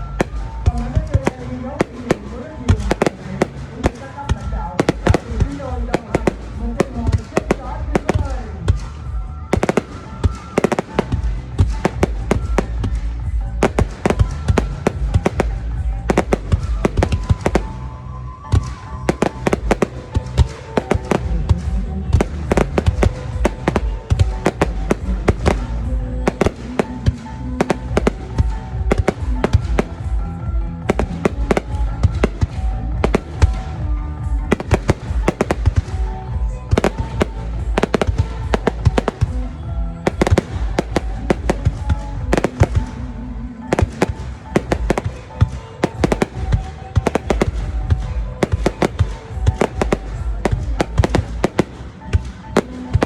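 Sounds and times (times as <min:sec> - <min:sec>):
fireworks bangs: 0:00.0 - 0:53.0
music playing: 0:00.0 - 0:53.0.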